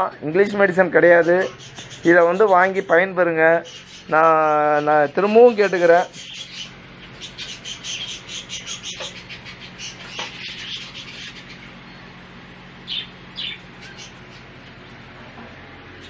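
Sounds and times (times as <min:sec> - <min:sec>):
steady low hum: 0:00.0 - 0:16.0
small birds chirping: 0:00.4 - 0:16.0.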